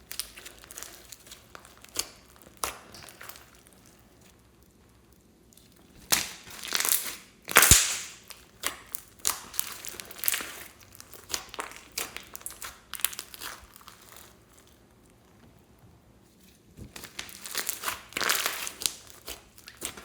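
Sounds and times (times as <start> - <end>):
slime squeezed crackling: 0.0 - 4.5, 5.5 - 15.2, 16.9 - 20.0.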